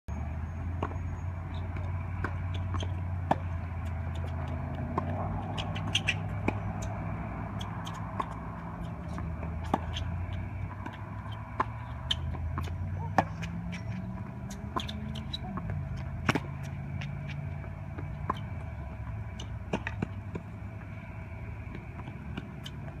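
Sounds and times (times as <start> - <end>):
steady low hum: 0.2 - 23.0
tennis ball bouncing: 0.7 - 23.0
tennis racket hitting ball: 0.8 - 23.0.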